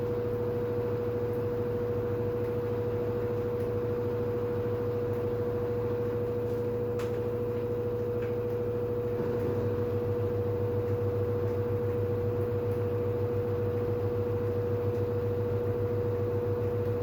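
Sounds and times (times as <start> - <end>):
washing machine drum hum: 0.0 - 17.0
washing machine motor whine: 0.0 - 17.0.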